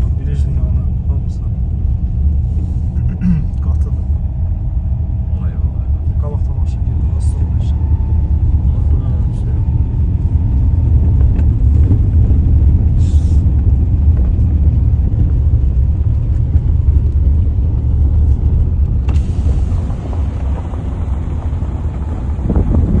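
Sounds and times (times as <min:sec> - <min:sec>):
car rumbling on the move: 0:00.0 - 0:23.0.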